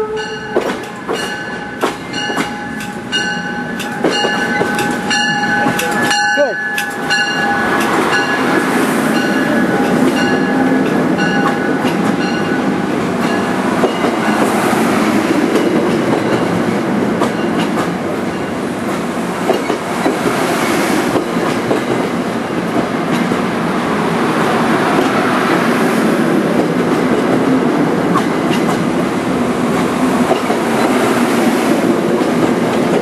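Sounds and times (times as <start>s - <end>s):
steel wheels rumbling on rail: 0.0s - 33.0s.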